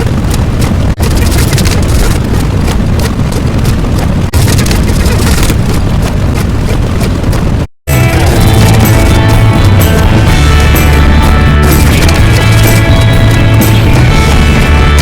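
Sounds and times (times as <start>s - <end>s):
loud steady rumbling: 0.0s - 15.0s.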